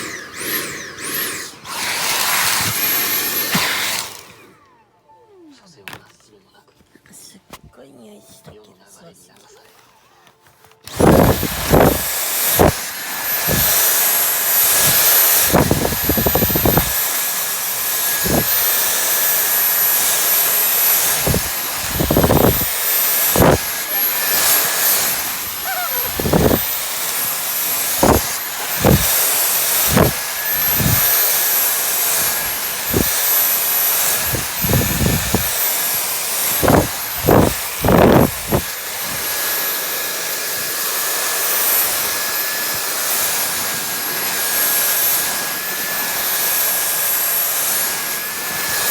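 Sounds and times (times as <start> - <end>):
vacuum cleaner whine: 0.0 - 5.0, 10.4 - 48.9.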